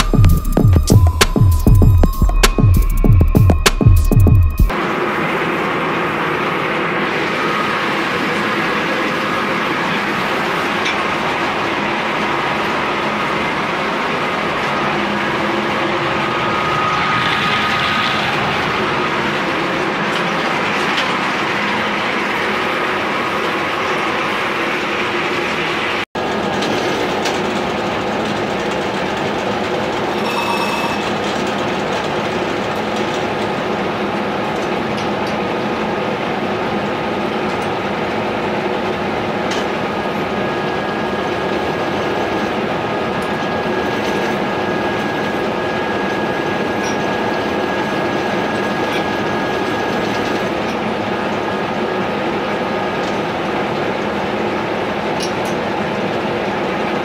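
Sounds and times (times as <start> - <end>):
thin steady whine: 0.0 - 26.0, 29.6 - 57.0
milling machine rattle and hum: 0.0 - 57.0.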